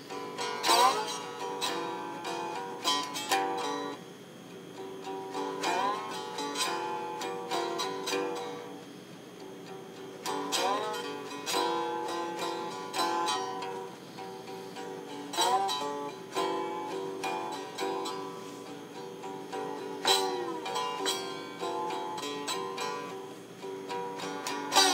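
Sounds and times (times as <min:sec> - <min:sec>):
slide guitar: 0:00.0 - 0:24.9.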